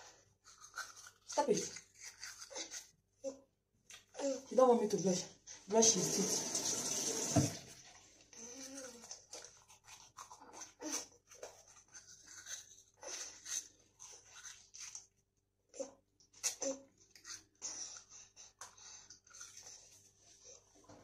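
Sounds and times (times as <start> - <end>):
toothbrush scrubbing teeth: 0.0 - 4.5, 5.6 - 20.9.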